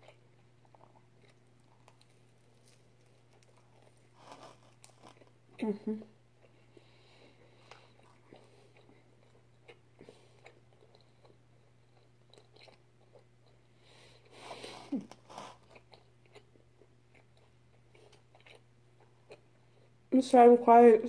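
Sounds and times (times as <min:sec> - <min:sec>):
person chewing: 0:00.0 - 0:05.6, 0:06.3 - 0:20.0.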